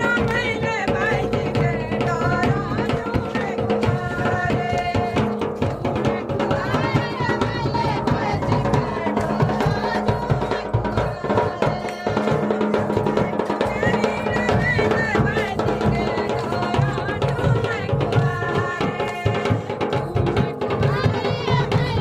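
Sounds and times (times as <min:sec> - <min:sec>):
dense drumming: 0:00.0 - 0:22.0.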